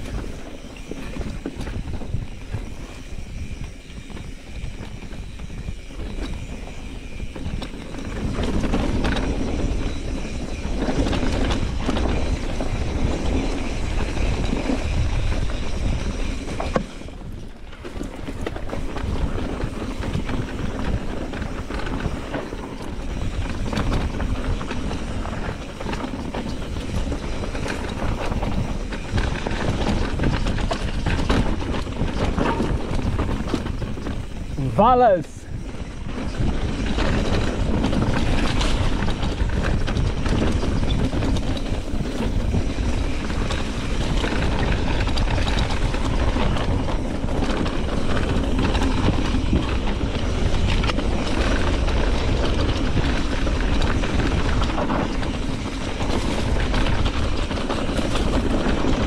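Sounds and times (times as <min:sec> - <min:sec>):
bike rattling over stones: 0:00.0 - 0:59.0
wind rumble on microphone: 0:00.0 - 0:59.0.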